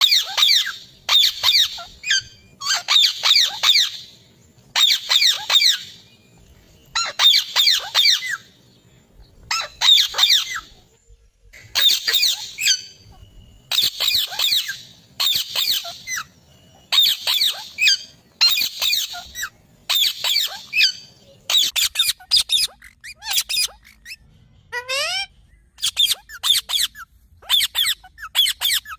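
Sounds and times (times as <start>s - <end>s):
parakeet calling shrilly: 0.0s - 6.0s, 6.8s - 8.6s, 9.4s - 10.9s, 11.7s - 28.9s.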